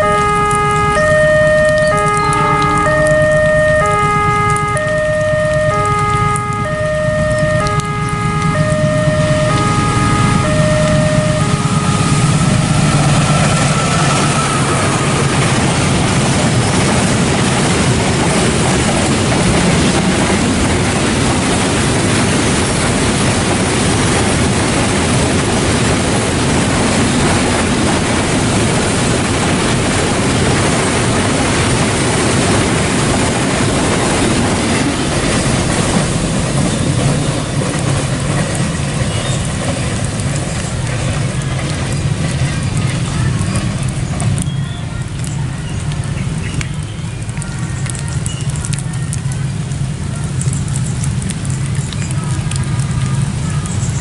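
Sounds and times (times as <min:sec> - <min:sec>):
freight train passing: 0:00.0 - 0:48.1.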